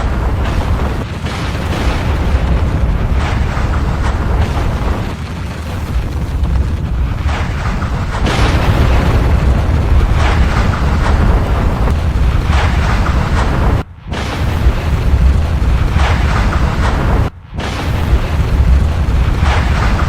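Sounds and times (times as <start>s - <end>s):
rushing noise surges: 0.0s - 20.0s
volcanic eruption rumble: 0.0s - 20.0s.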